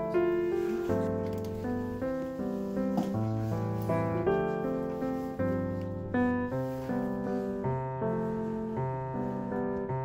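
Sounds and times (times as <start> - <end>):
slow keyboard melody: 0.0 - 10.0.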